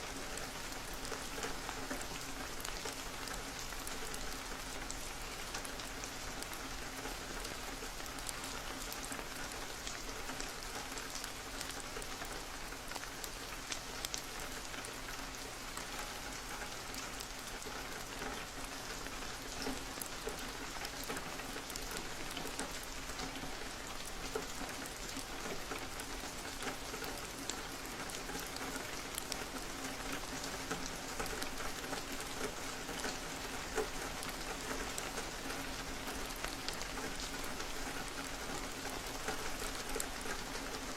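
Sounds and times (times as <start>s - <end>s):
rain on a window: 0.0s - 40.9s.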